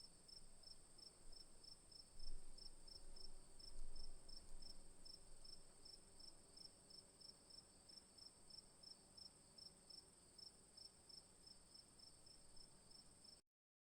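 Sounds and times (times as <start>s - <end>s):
insect chirping: 0.0s - 13.4s.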